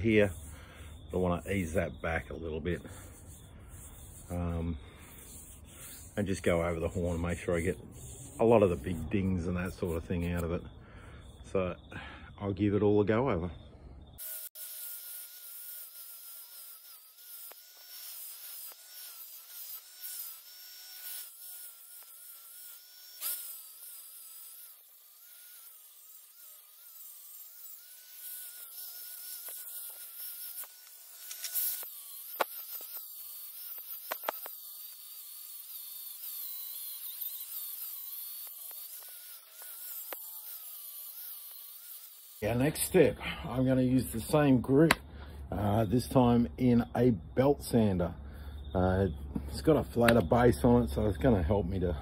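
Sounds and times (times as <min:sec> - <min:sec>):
angle grinder grinding steel: 0:00.0 - 0:10.7, 0:14.2 - 0:46.8.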